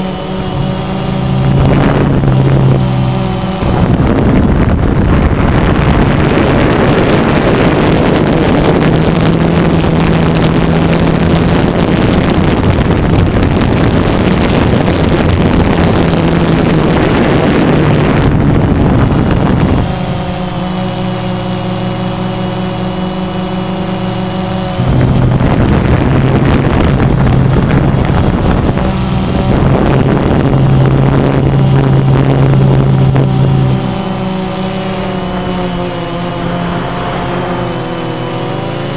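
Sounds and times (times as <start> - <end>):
drone motors humming: 0.0 - 38.9
wind rushing over microphone: 0.0 - 38.9.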